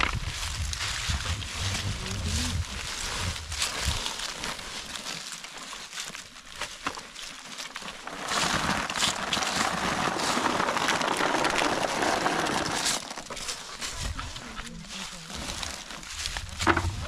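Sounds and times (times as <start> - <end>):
plastic sack crinkling: 0.0 - 17.0
acorns rattling into sack: 2.5 - 17.0.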